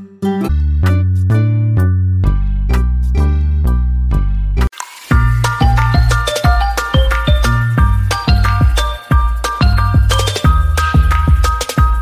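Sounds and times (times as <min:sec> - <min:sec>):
background music with bass and beat: 0:00.0 - 0:12.0.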